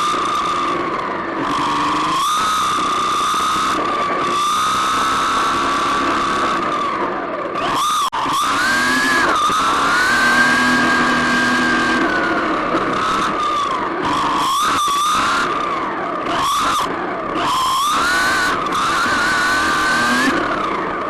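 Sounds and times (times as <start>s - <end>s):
rc car motor whining: 0.0s - 21.0s.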